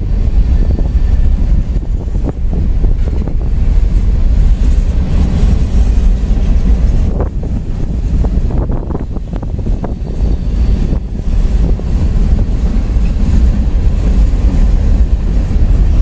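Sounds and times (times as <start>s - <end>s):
steel wheels rumbling on rail: 0.0s - 16.0s.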